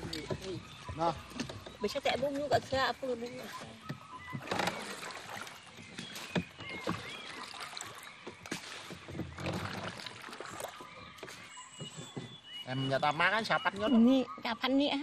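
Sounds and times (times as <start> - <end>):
wooden canoe knocking: 0.0 - 14.7
water against hull: 0.0 - 15.0.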